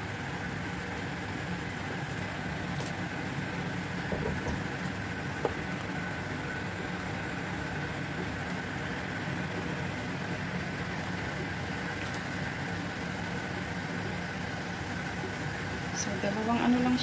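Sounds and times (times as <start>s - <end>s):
faint constant whine: 0.0s - 17.0s
low rumbling hum: 0.0s - 17.0s.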